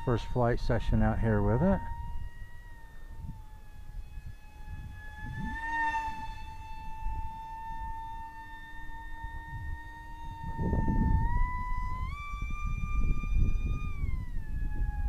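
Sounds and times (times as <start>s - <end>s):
electric motor whining: 0.0s - 15.0s
wind rumble on microphone: 0.0s - 15.0s.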